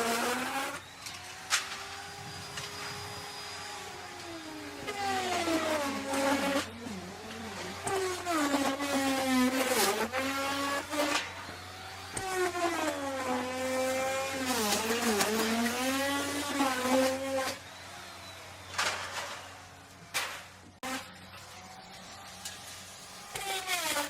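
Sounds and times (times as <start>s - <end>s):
electric router cutting wood: 0.0s - 24.0s.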